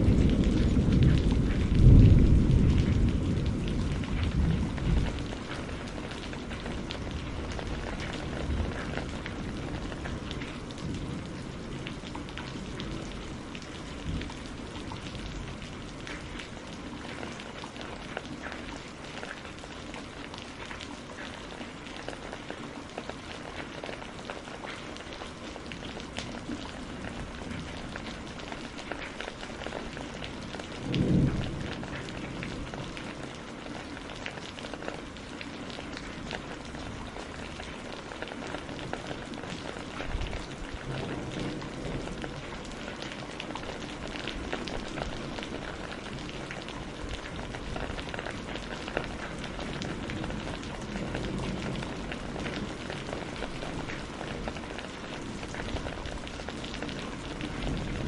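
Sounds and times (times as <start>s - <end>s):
low rumble of thunder: 0.0s - 58.0s
rain pattering on greenhouse roof: 0.0s - 58.0s.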